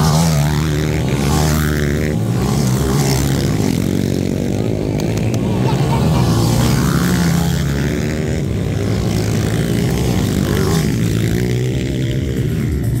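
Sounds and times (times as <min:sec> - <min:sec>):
dirt bike engines racing past: 0:00.0 - 0:13.0.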